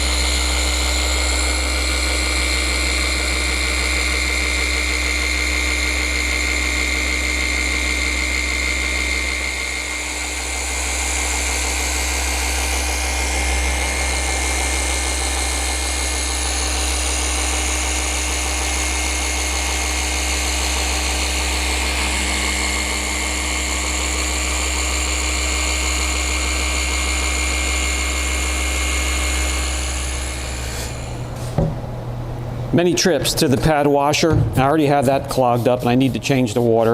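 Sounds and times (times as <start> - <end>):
polisher running: 0.0 - 32.7.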